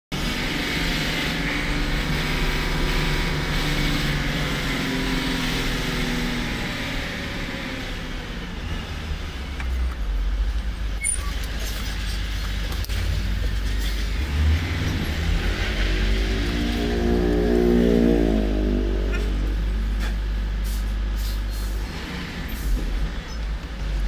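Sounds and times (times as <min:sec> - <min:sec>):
large truck passing: 0:00.1 - 0:24.0
road noise: 0:00.1 - 0:24.0
truck diesel engine running: 0:00.1 - 0:24.0.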